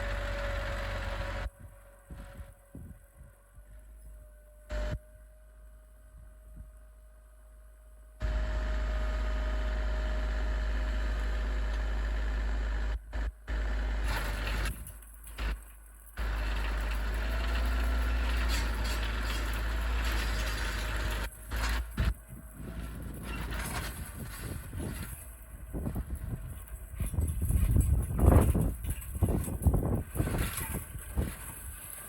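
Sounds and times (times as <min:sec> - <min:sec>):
tractor engine running hard: 0:00.0 - 0:02.6, 0:08.2 - 0:32.0.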